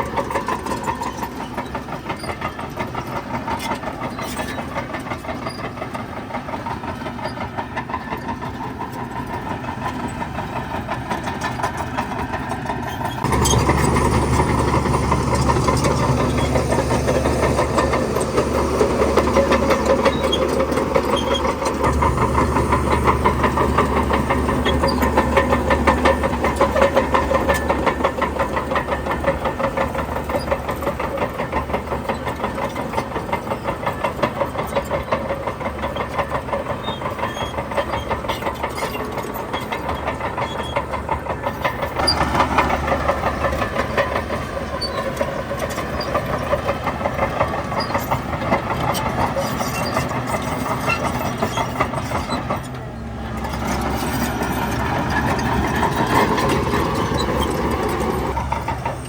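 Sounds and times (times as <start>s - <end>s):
diesel construction machinery running: 0.0s - 59.0s.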